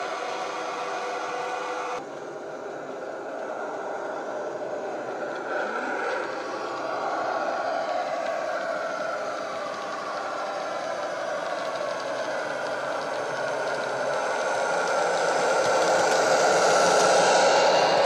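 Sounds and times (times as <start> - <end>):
model train wheels on track: 0.0 - 18.0
diesel engine sound from small speaker: 2.9 - 18.0.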